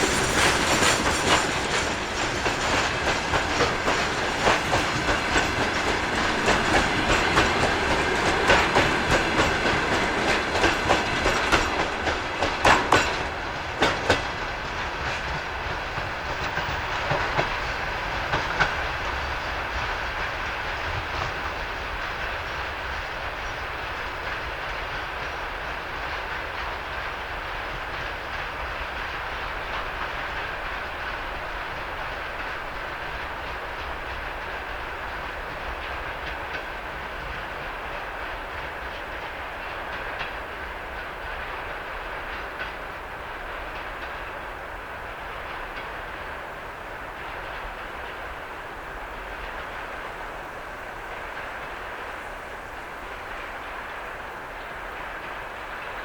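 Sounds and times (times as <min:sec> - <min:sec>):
train rumble: 0:00.0 - 0:56.0
train wheels clicking over rail joints: 0:00.0 - 0:56.0.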